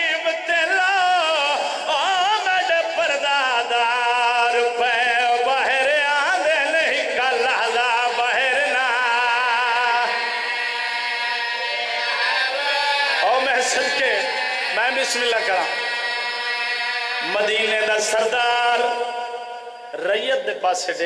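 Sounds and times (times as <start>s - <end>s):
man chanting into microphone: 0.0s - 10.4s, 12.6s - 16.0s, 17.0s - 21.0s.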